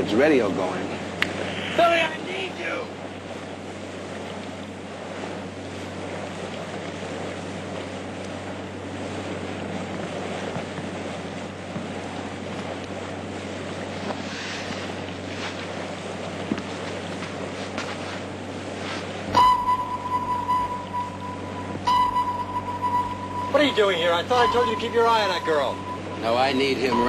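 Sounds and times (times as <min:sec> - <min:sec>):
boat engines droning: 0:00.0 - 0:27.0
sea wash: 0:00.0 - 0:27.0.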